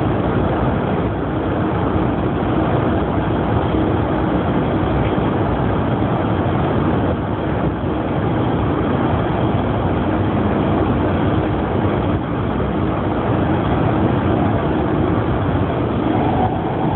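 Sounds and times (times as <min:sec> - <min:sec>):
faint steady hum: 0:00.0 - 0:16.9
train running at speed: 0:00.0 - 0:16.9.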